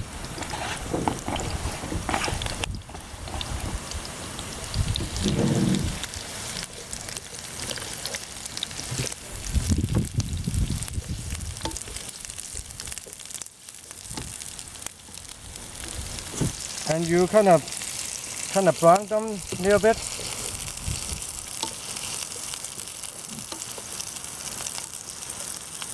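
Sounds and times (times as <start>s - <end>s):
vegetables sizzling in hot oil: 0.1s - 25.9s.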